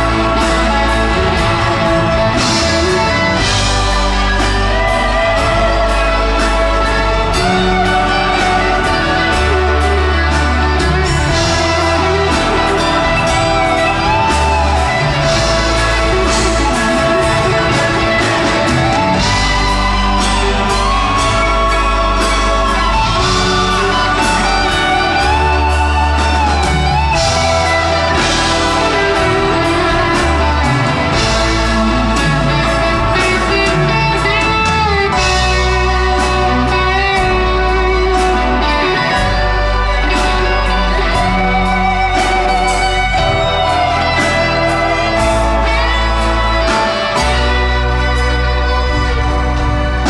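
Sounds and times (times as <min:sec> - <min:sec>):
electric guitar lead line: 0:00.0 - 0:50.0
held bass: 0:00.0 - 0:50.0
live rock band: 0:00.0 - 0:50.0
orchestral strings: 0:00.0 - 0:50.0.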